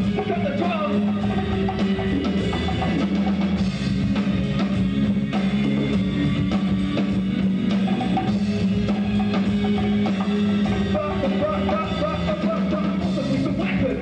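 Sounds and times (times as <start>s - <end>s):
congas: 0.0s - 14.0s
drum kit beat: 0.0s - 14.0s
guitar playing: 0.0s - 14.0s.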